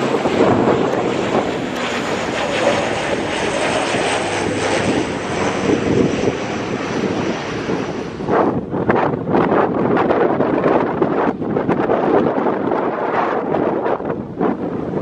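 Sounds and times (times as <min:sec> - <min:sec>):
turboprop engines running: 0:00.0 - 0:15.0.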